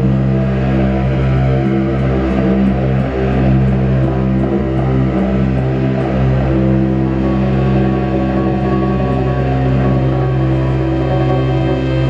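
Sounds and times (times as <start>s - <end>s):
drone music with low tones: 0.0s - 12.0s.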